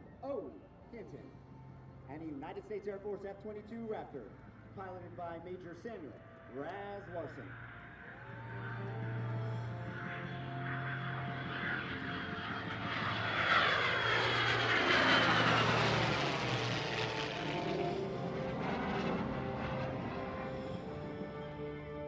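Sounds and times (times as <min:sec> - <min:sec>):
aircraft flying past: 0:00.5 - 0:22.0.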